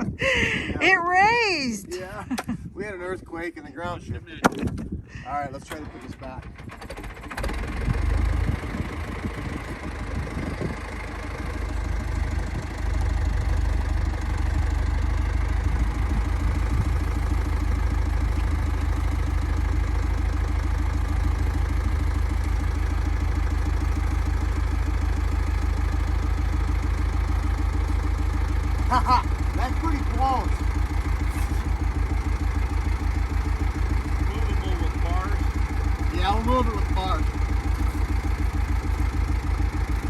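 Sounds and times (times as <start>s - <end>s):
engine running with deep rumble: 0.0s - 40.0s.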